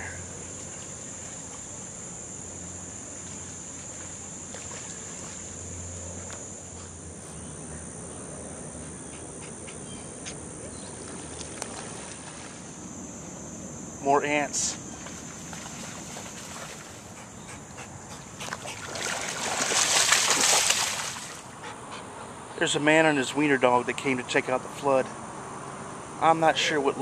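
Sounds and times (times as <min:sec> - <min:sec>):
faint low hum: 0:00.0 - 0:27.0
insect chorus buzzing: 0:00.0 - 0:27.0.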